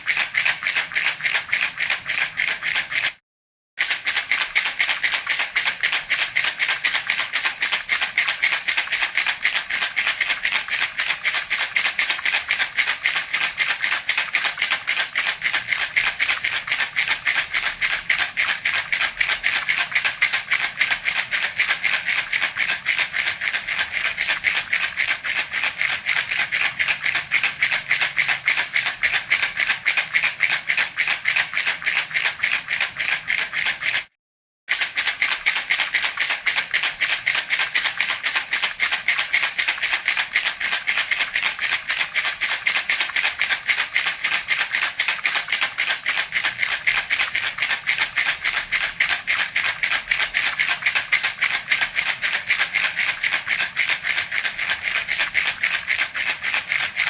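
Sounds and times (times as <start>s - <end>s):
baby rattle shaking: 0.0s - 3.2s, 3.8s - 34.1s, 34.7s - 57.0s.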